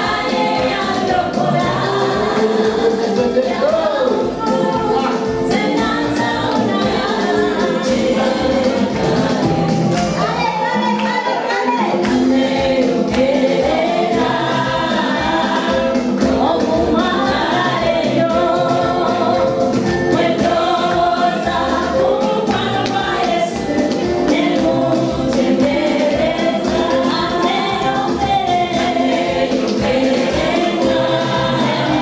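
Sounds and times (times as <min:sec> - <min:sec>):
backing track with beat: 0:00.0 - 0:32.0
gospel choir singing: 0:00.0 - 0:32.0.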